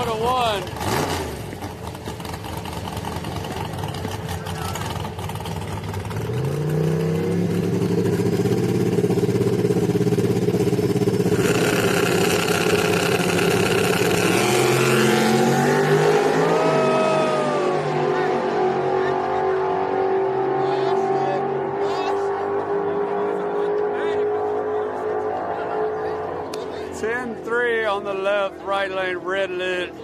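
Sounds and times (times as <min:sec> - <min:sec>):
pickup truck engines revving: 0:00.0 - 0:30.0.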